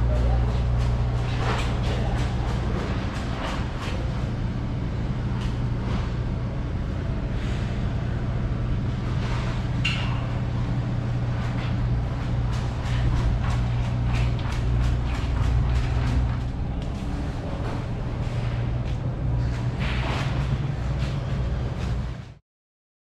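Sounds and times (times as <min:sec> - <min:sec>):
low mechanical hum: 0:00.0 - 0:22.4.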